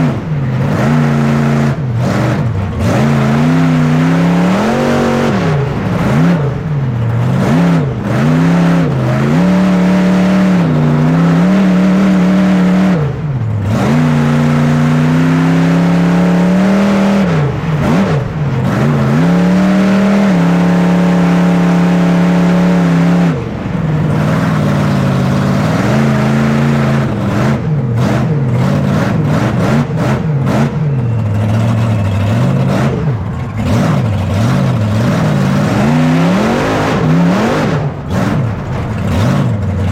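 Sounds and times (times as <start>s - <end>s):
truck engine revving hard: 0.0s - 39.9s.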